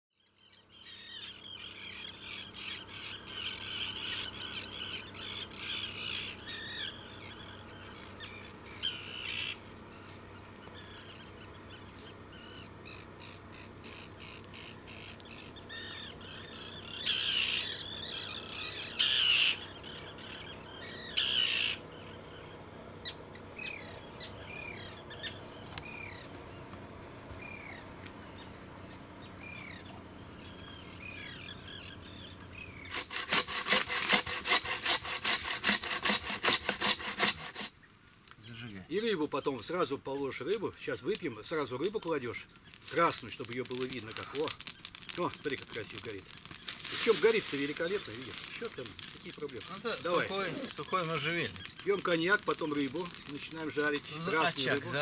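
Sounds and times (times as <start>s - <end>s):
birds chirping: 0.1s - 55.0s
loud rough bird calls: 0.2s - 55.0s.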